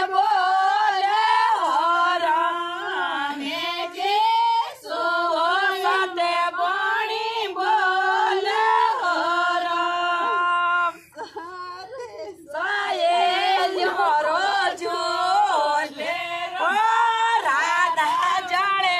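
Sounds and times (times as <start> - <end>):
women singing unaccompanied: 0.0 - 18.9.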